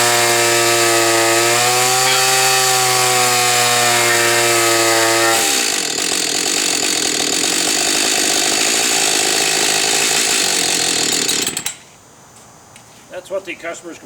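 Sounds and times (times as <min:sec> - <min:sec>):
chainsaw revving and idling: 0:00.0 - 0:11.8.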